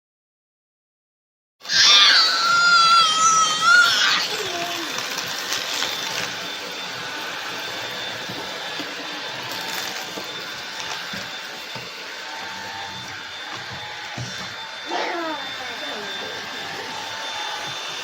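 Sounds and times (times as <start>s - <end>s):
stick vacuum running: 1.6s - 18.0s.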